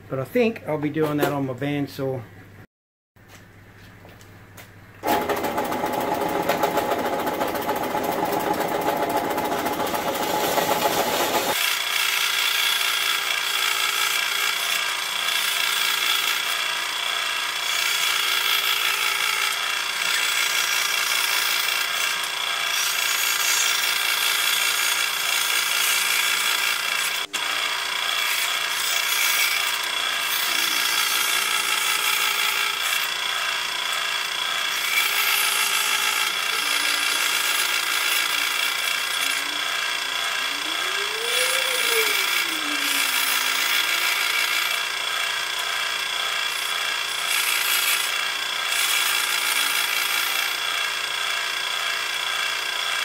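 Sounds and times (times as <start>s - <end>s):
bandsaw cutting plywood: 5.0s - 53.0s.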